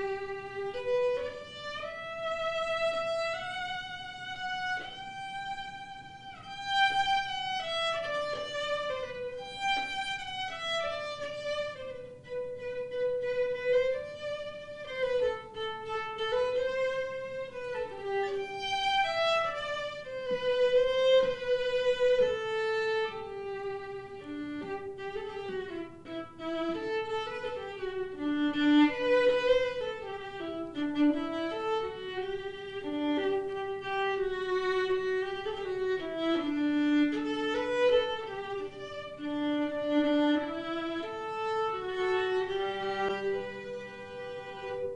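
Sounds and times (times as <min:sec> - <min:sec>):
solo violin melody: 0:00.0 - 0:44.9.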